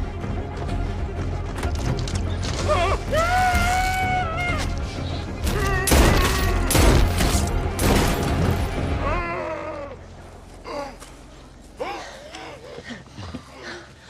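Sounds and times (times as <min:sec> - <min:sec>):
action film music: 0:00.0 - 0:14.0.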